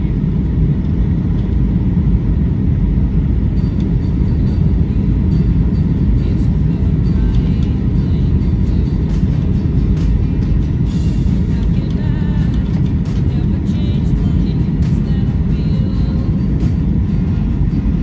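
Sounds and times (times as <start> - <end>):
aircraft cabin engine rumble: 0.0 - 18.0.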